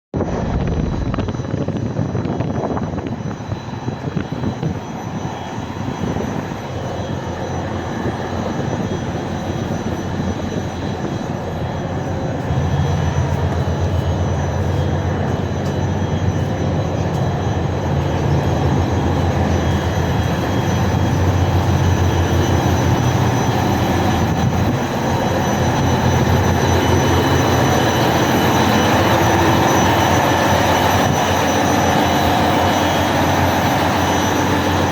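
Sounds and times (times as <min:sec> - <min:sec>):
ship engines running: 0:00.2 - 0:34.9.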